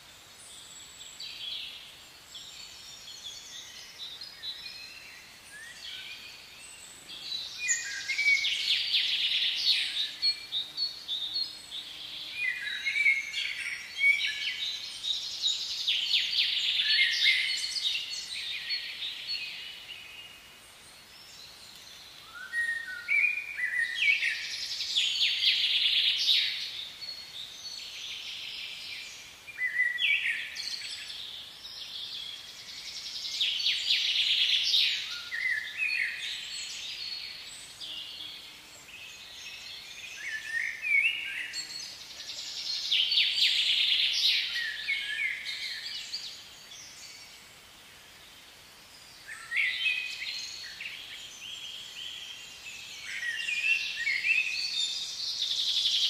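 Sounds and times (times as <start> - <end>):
songbirds singing and trilling: 0.0 - 56.0.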